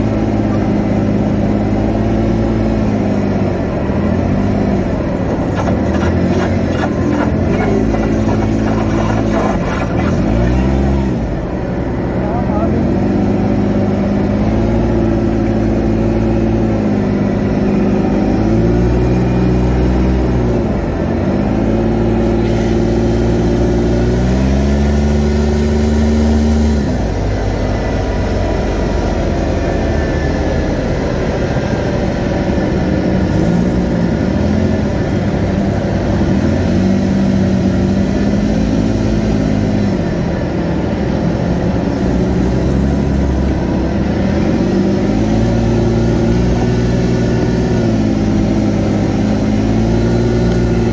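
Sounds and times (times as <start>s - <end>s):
vehicle engine revving: 0.0s - 50.9s
wind and road noise: 0.0s - 50.9s.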